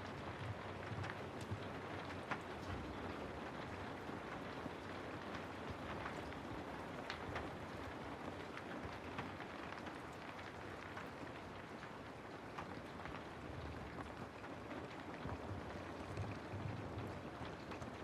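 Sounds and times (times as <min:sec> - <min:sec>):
rain falling on a forest: 0:00.0 - 0:18.0
raindrops ticking and pattering: 0:00.0 - 0:18.0.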